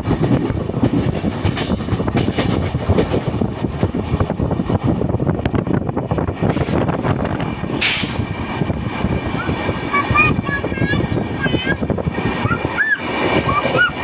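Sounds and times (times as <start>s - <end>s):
train rumbling and clattering: 0.0s - 14.0s.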